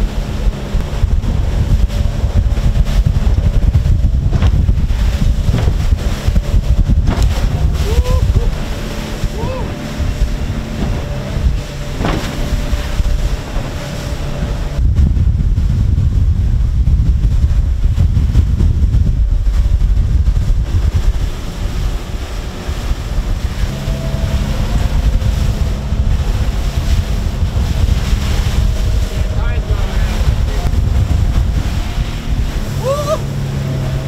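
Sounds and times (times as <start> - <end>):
boat engine droning: 0.0 - 34.0
water rushing past hull: 0.0 - 34.0
wind buffeting microphone: 0.0 - 34.0.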